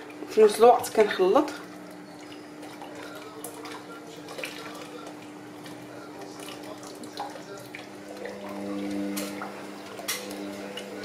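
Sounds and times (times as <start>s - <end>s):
faint liquid trickle: 0.0s - 11.0s.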